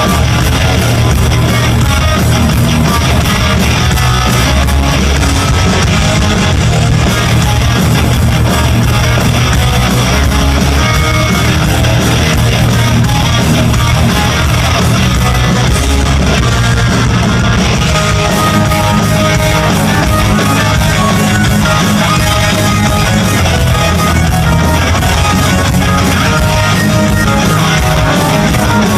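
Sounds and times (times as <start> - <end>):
bass guitar: 0.0 - 28.9
distorted electric guitars: 0.0 - 28.9
drums: 0.0 - 28.9.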